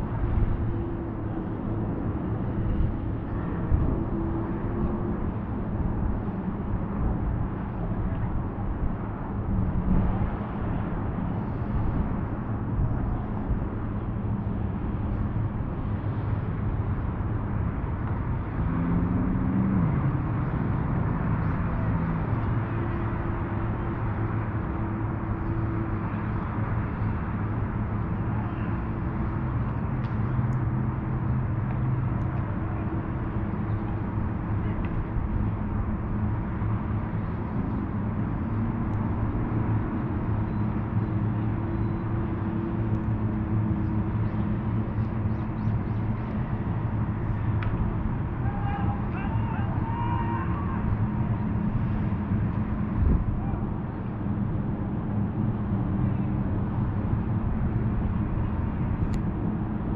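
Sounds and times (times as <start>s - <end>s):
distant engines: 0.0s - 59.9s
road traffic: 0.0s - 59.9s.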